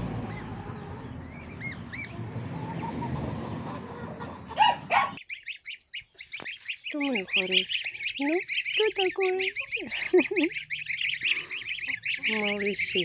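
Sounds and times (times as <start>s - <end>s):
goslings peeping: 0.0s - 13.0s.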